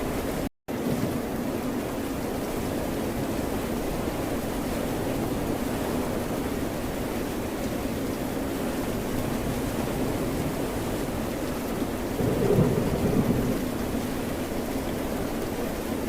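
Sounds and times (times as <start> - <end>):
ocean surf: 0.0 - 1.2, 2.0 - 16.0
steady rain: 0.0 - 16.0.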